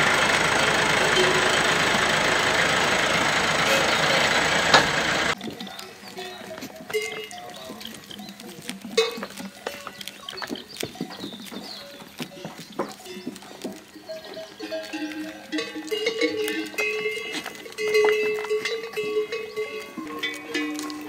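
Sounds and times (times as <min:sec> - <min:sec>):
goat bells clanking: 0:00.0 - 0:21.0
goats butting heads: 0:00.0 - 0:21.0.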